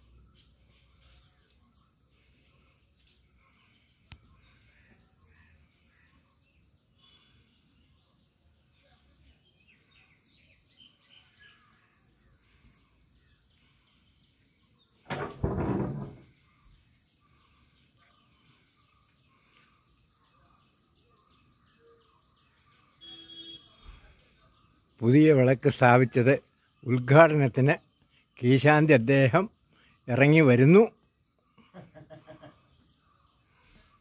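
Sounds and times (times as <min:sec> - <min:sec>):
faint bird chirps: 0:00.0 - 0:15.1, 0:16.2 - 0:34.0.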